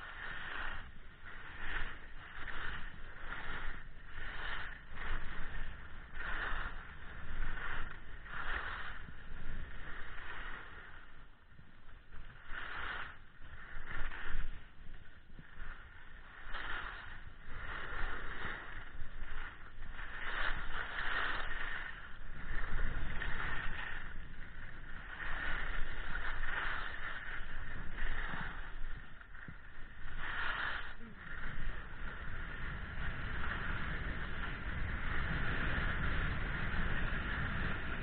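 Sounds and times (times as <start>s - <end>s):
skis scraping over snow: 0.0s - 38.0s
wind rumble on microphone: 0.0s - 38.0s.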